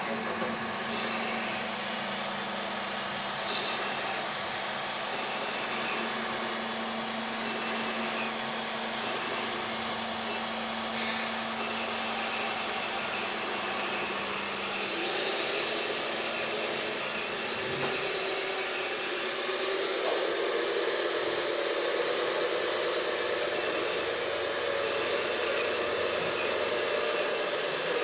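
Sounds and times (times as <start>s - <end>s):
model excavator mechanical hum: 0.0s - 28.0s.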